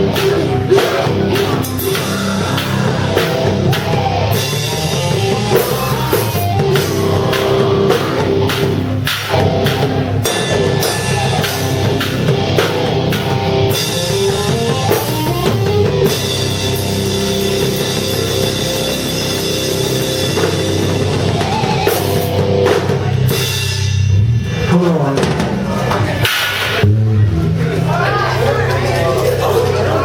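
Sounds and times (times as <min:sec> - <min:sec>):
drum kit: 0:00.0 - 0:30.0
rock band playing: 0:00.0 - 0:30.0.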